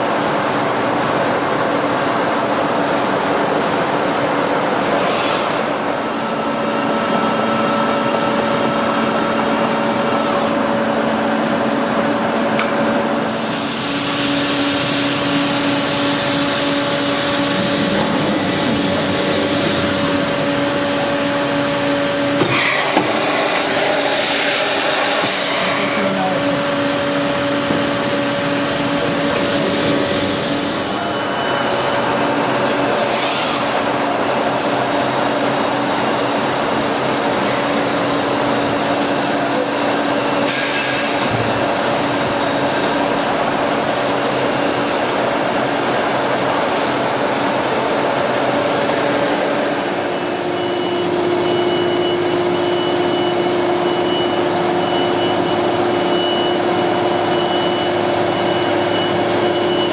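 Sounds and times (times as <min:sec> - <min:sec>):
boring machine whine and hum: 0:00.0 - 0:59.9.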